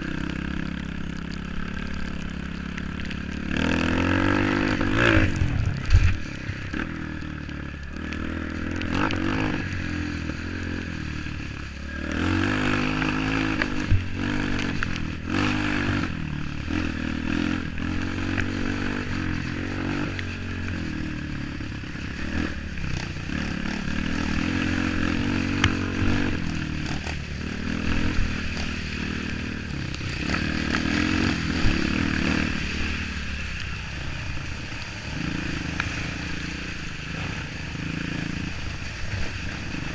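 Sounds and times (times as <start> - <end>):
motorcycle engine revving: 0.0 - 39.9
rattling and scraping from bike: 0.0 - 39.9.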